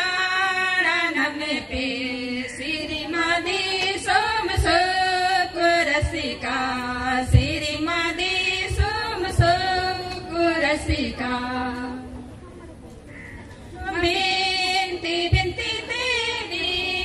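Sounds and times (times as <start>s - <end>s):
women singing through a pa: 0.0s - 12.4s, 13.7s - 17.0s.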